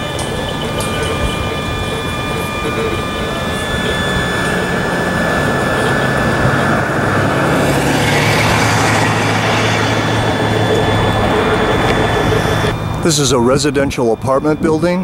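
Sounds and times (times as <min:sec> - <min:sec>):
motor vehicle passing: 0:00.0 - 0:14.6.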